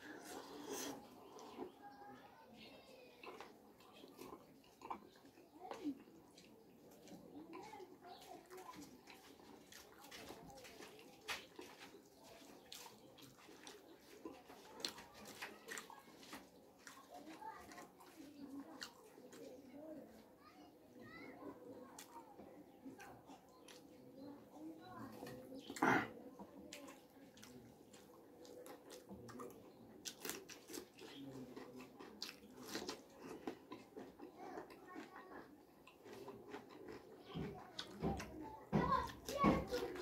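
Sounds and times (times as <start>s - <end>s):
wet chewing and mouth sounds: 0.0s - 40.0s.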